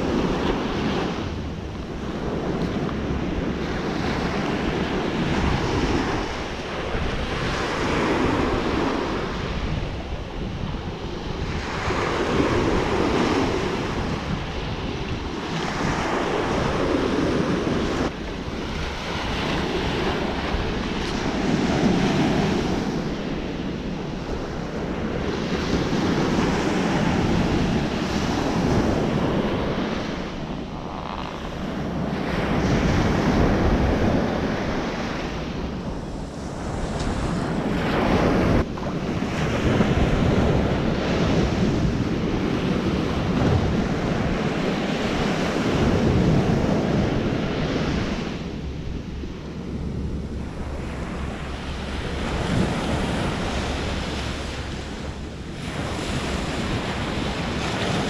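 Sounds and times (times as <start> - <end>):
small waves breaking on sand: 0.0 - 58.0
wind rumbling on microphone: 0.0 - 58.0.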